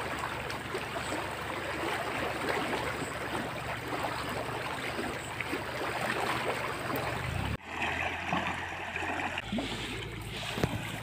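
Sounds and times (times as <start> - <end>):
water rushing in a ditch: 0.0 - 11.0.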